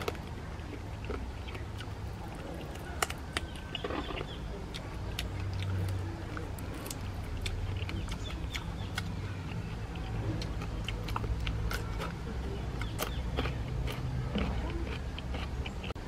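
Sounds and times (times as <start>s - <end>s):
low steady hum: 0.0s - 16.0s
man chewing food: 0.0s - 16.0s.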